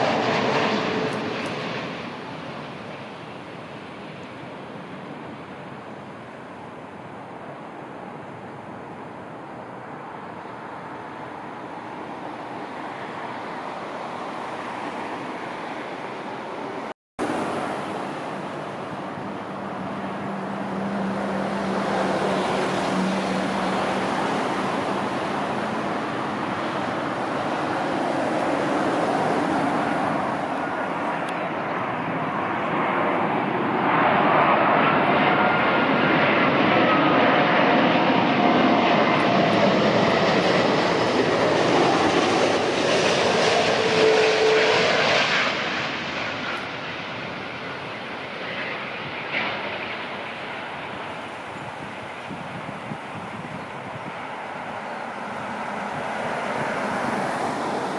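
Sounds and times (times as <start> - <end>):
jet airliner engine noise: 0.0 - 57.9.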